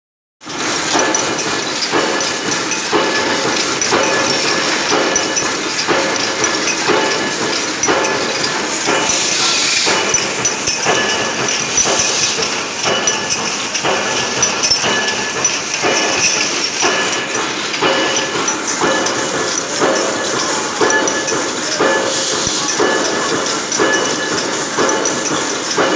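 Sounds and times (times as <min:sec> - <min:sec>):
machine clatter with metallic knock: 0:00.4 - 0:25.9.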